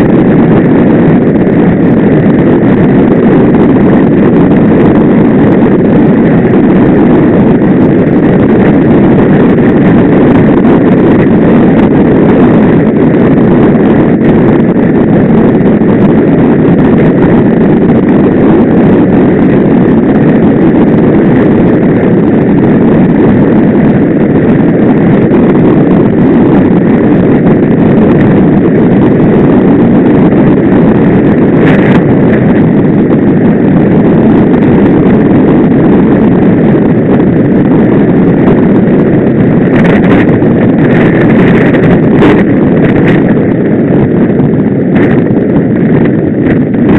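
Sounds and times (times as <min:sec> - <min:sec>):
wind rush on microphone: 0:00.0 - 0:46.9.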